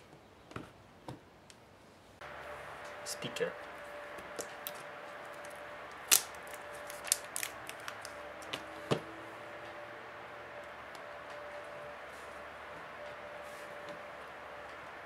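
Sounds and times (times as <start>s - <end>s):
faint steady hum: 1.4s - 15.0s.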